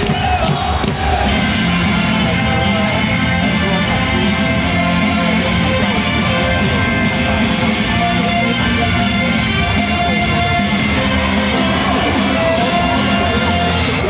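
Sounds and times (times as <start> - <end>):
rock cheer song with guitar: 0.0 - 14.0.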